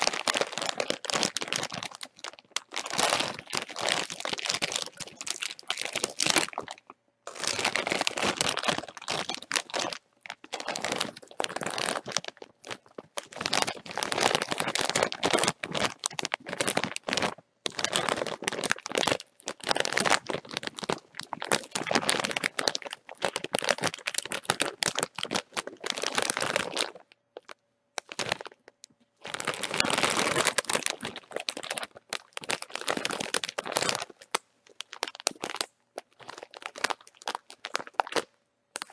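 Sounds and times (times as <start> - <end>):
plastic bag crinkling: 0.0 - 38.9.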